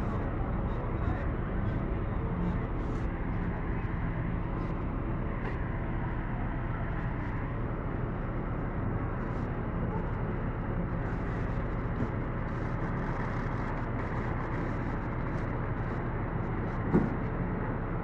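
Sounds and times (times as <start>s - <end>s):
faint voices: 0.0s - 14.5s
fire truck engines rumbling: 0.0s - 18.0s.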